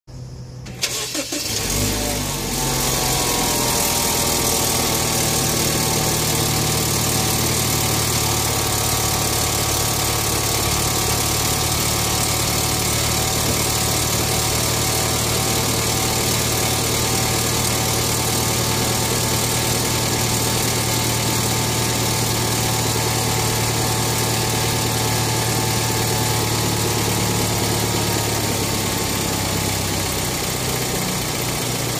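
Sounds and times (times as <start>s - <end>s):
car engine cranking: 0.6s - 31.9s
car engine idling with rattle: 2.4s - 31.9s.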